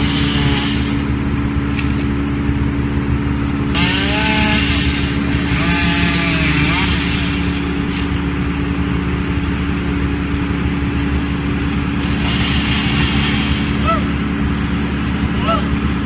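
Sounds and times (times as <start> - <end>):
truck engine and machinery droning: 0.0 - 16.0.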